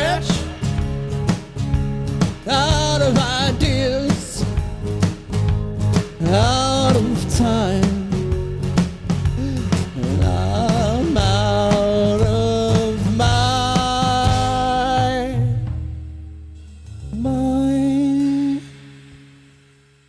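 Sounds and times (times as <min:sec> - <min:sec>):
punk band playing live: 0:00.0 - 0:19.8
drums: 0:00.0 - 0:20.0.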